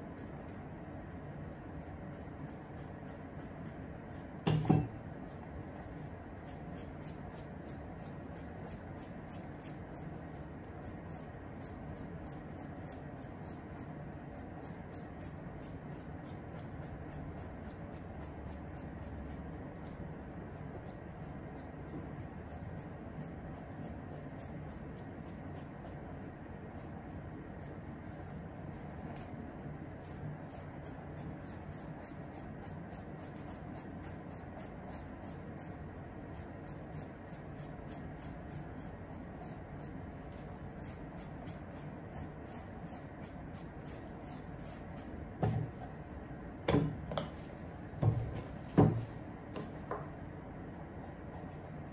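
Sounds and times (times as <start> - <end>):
low room noise: 0.0 - 51.9.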